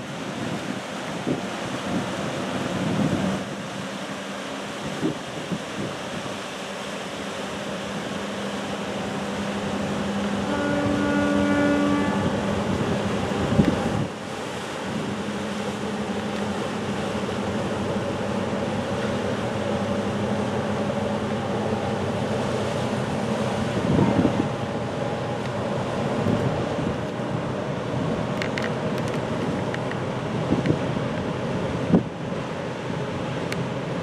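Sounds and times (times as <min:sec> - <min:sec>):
ship engine drone: 0:00.0 - 0:34.0
wind: 0:00.0 - 0:34.0.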